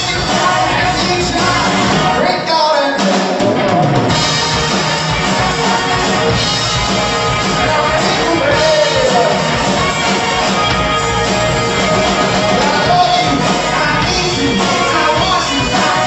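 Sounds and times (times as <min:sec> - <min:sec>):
person singing: 0:00.0 - 0:10.7, 0:11.7 - 0:16.0
drum kit: 0:00.0 - 0:16.0
guitar: 0:00.0 - 0:16.0
rock band playing: 0:00.0 - 0:16.0.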